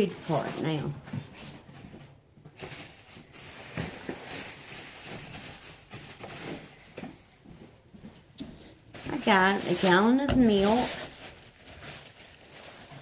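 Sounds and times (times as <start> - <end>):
shopping items rustling and knocking: 0.0 - 13.0.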